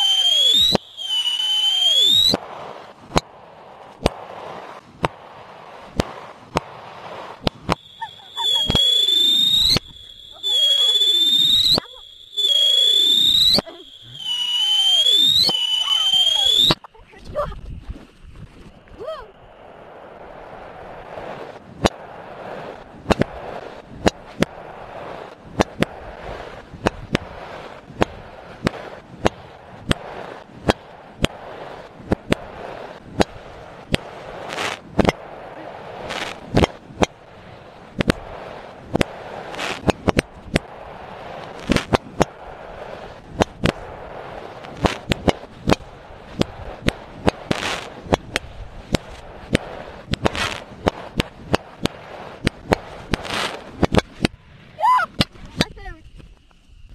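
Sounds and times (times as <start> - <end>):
fireworks cracks and bangs: 0.0 - 56.6.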